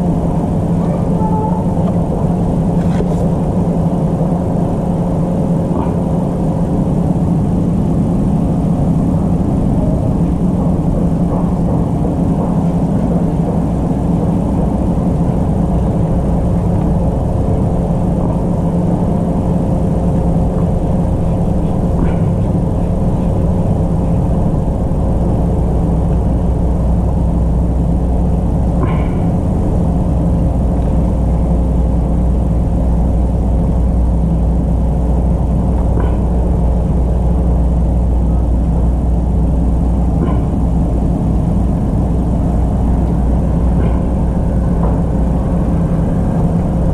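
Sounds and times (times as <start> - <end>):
pump humming and rumbling: 0.0 - 46.9.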